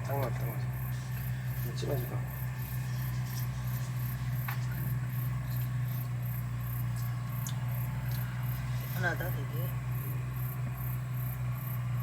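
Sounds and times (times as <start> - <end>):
insects chirping: 0.0 - 12.0
steady low hum: 0.0 - 12.0.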